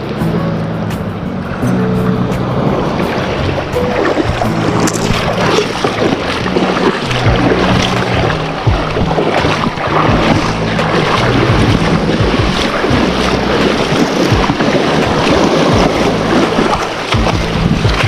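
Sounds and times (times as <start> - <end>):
sea water lapping: 0.0 - 18.0
wind buffeting microphone: 0.0 - 18.0.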